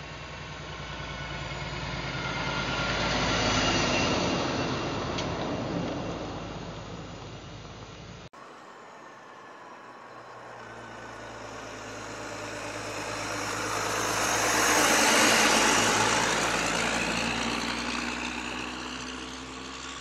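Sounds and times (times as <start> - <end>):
diesel truck driving past: 0.0 - 20.0.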